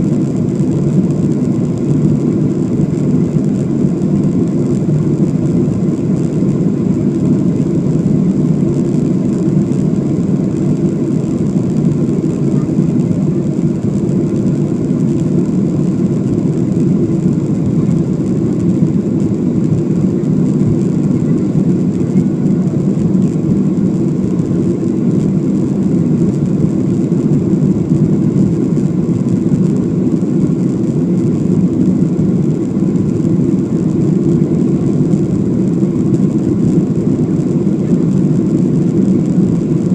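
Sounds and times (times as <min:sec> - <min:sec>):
faint high whine: 0:00.0 - 0:39.9
jet engine and airflow rumble: 0:00.0 - 0:39.9.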